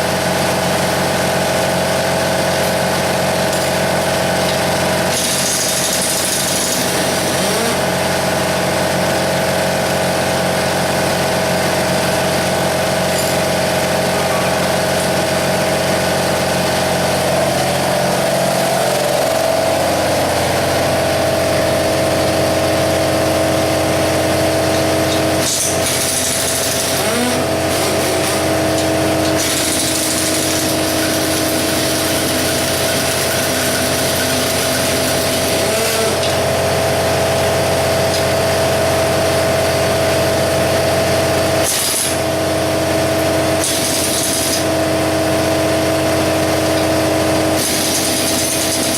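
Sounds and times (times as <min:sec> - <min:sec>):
air compressor droning: 0:00.0 - 0:48.9.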